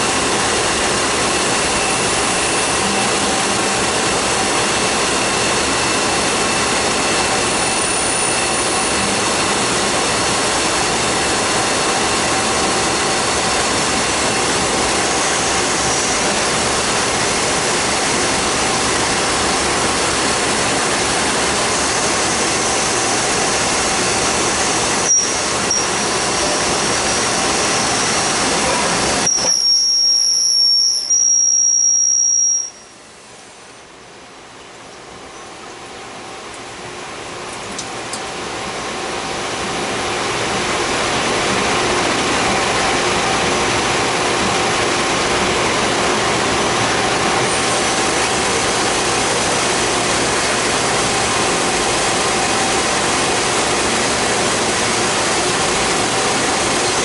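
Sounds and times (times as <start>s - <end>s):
lathe running with loud hiss: 0.0s - 33.8s, 38.3s - 57.0s
steady high whine: 0.0s - 57.0s.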